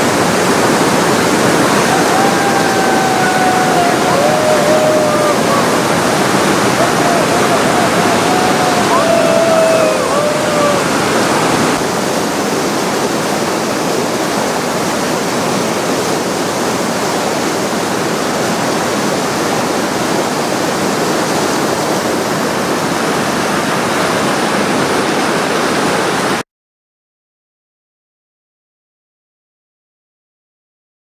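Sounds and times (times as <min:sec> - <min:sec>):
whitewater rapid roaring: 0:00.0 - 0:26.4.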